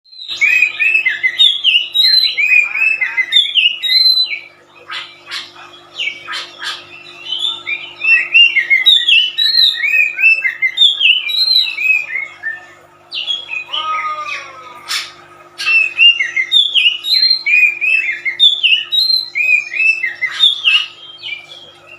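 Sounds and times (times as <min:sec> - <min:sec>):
songbird singing: 0:00.1 - 0:21.9.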